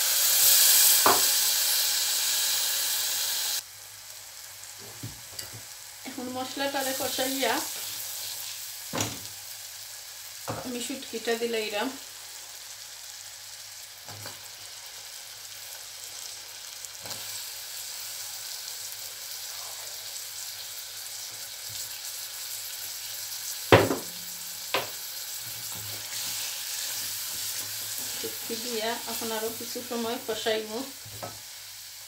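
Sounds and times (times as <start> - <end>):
fish sizzling in a pan: 0.0 - 32.0.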